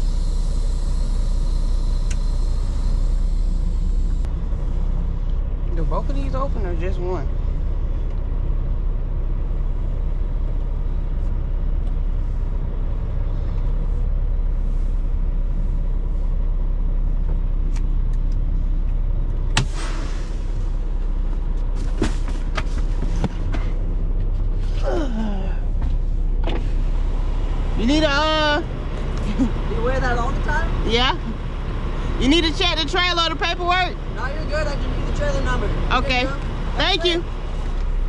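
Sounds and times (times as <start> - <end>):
diesel engine rumble: 0.0 - 38.0.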